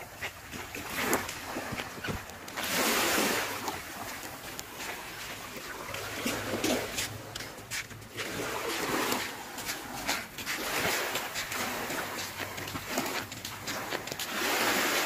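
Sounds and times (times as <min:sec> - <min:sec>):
small waves lapping on sand: 0:00.0 - 0:15.0.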